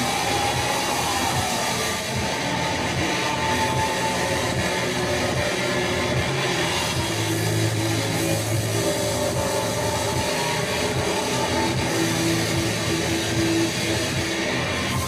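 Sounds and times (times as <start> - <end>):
dense wash of noise: 0.0 - 15.0
sustained drone tones: 0.0 - 15.0.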